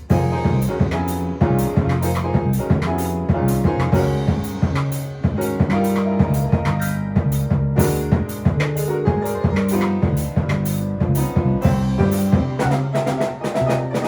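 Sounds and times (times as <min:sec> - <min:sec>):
drum kit playing a busy beat: 0:00.0 - 0:14.0
latin keyboard music: 0:00.0 - 0:14.0.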